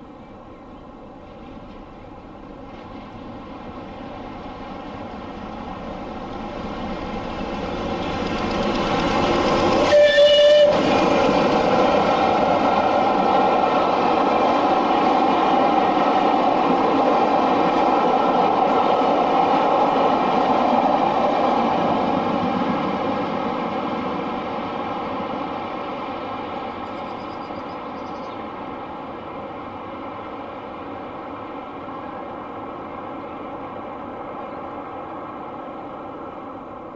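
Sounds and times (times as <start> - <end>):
steam train passing: 0.0 - 36.9.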